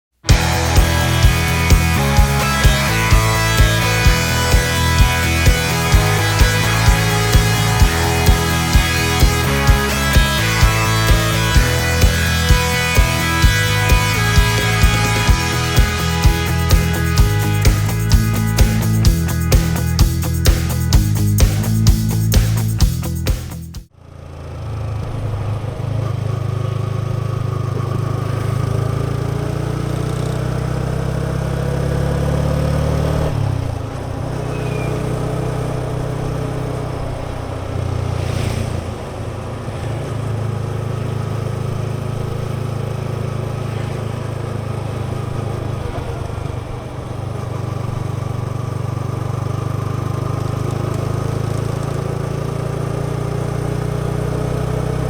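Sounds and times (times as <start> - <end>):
motorcycle engine revving: 0.2 - 55.0.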